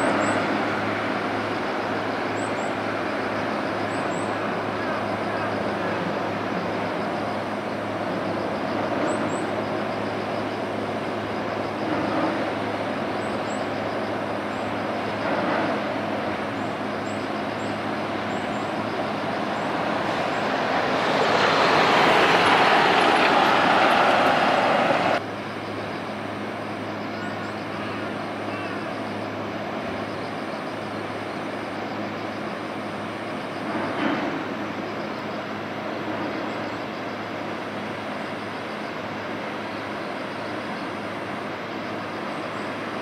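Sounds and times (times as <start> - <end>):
traffic rumble: 0.0 - 43.0.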